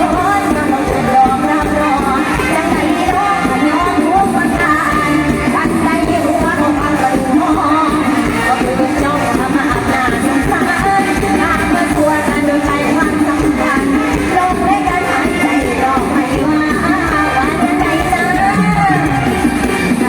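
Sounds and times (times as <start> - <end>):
live band with singer: 0.0 - 20.0.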